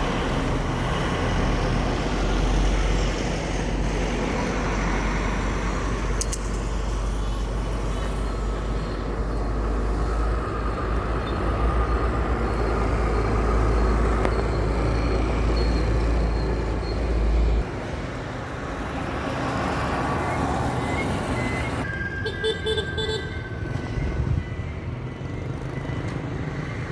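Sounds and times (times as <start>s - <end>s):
truck engine rumble: 0.0s - 26.5s.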